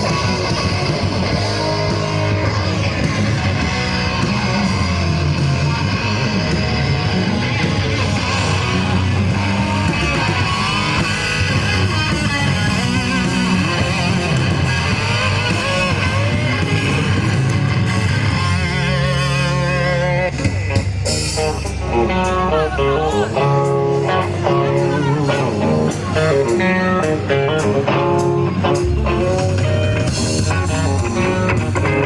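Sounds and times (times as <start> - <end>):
electric guitar: 0.0 - 32.0
rock band playing live: 0.0 - 32.0.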